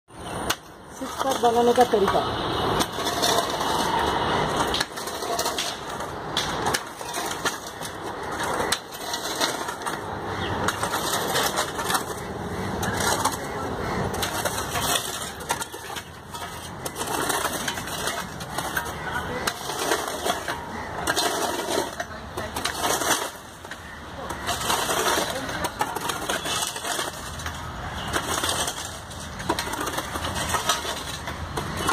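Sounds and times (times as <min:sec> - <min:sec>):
dirt and grit crunching: 0:00.1 - 0:31.9.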